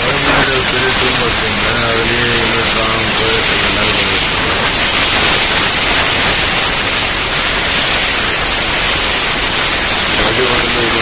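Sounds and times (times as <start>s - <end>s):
loud steady static hiss: 0.0s - 11.0s.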